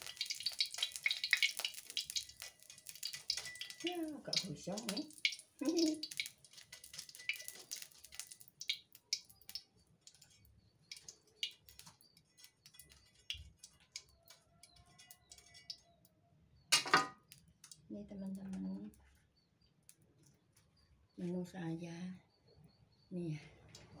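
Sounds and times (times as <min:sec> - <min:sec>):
hot oil crackling and popping: 0:00.0 - 0:20.8.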